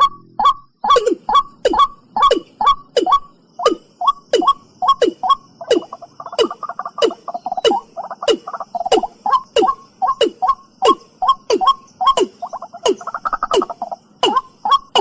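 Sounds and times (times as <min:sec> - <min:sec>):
bird calling with sliding notes: 0:00.0 - 0:15.0.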